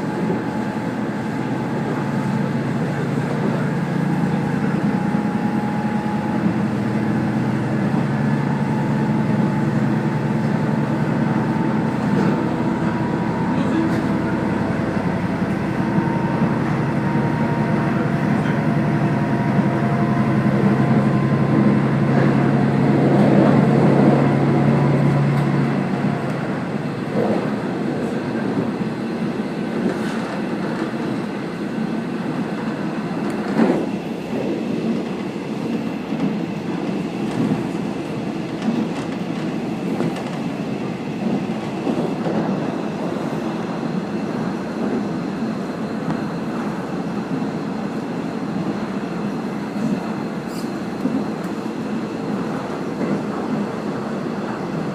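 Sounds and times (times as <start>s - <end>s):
low engine drone: 0.0s - 54.9s
wheels rumbling on rail: 0.0s - 54.9s.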